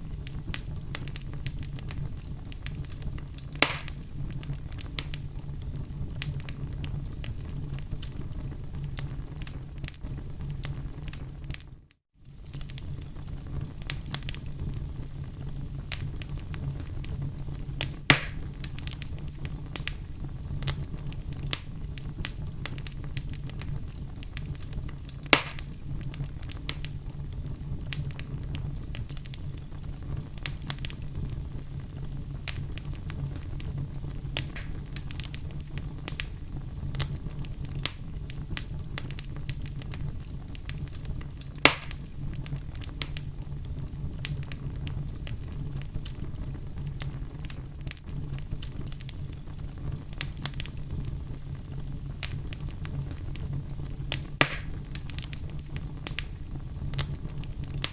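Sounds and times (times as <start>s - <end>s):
fire crackling in a fireplace: 0.0s - 57.9s
loud pops of fire: 0.0s - 57.9s.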